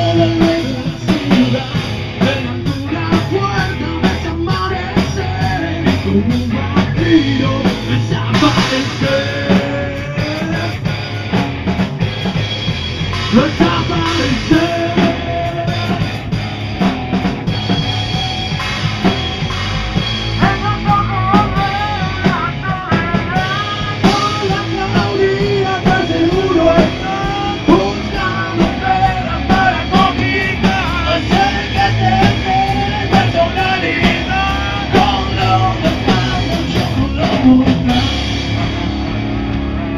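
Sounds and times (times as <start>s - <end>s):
bass guitar: 0.0s - 39.9s
distorted electric guitars: 0.0s - 39.9s
drum kit: 0.0s - 39.9s
wavering lead guitar line: 0.0s - 39.9s.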